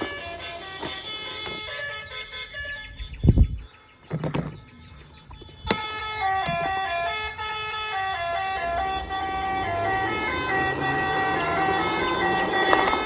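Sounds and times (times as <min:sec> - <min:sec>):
rough whirring noise: 0:00.0 - 0:03.4, 0:05.7 - 0:13.0
toy beeping tune: 0:00.0 - 0:03.6, 0:05.5 - 0:13.0.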